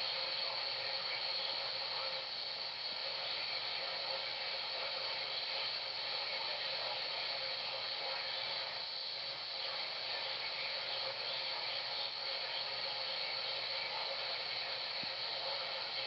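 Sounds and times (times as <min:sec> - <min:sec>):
faint steady tone: 0:00.0 - 0:16.0
radio static hiss: 0:00.0 - 0:16.0.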